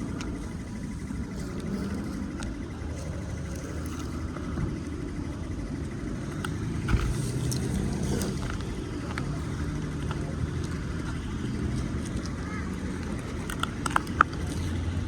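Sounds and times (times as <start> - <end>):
car engines rumbling in traffic: 0.0 - 15.0.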